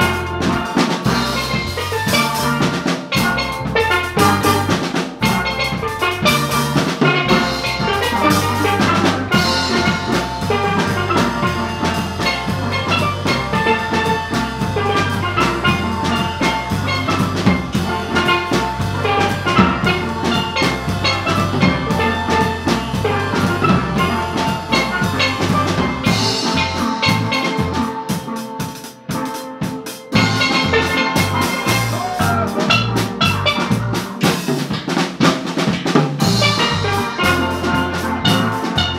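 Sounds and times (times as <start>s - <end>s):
electric bass guitar: 0.0s - 27.9s, 30.2s - 34.3s
drum kit with cymbals: 0.0s - 38.9s
steel pans playing melody: 0.0s - 38.9s.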